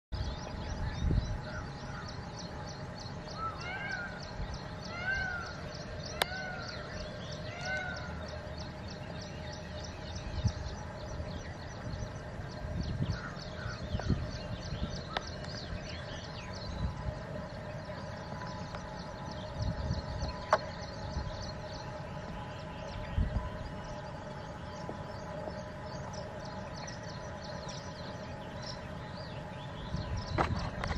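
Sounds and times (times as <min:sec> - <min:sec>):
low wind rumble: 0:00.1 - 0:30.9
birds chipping: 0:00.2 - 0:30.9
lower arched bird calls: 0:00.2 - 0:30.9.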